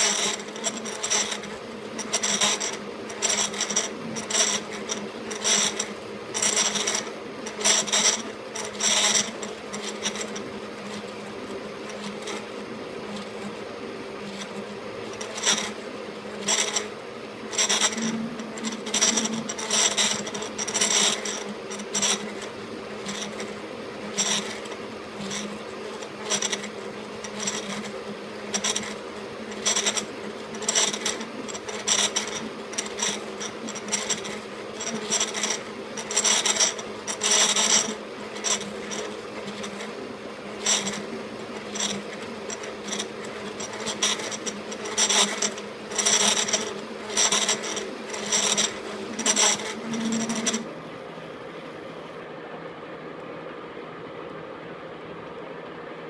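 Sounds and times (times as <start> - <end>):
metal lathe humming: 0.0 - 51.0.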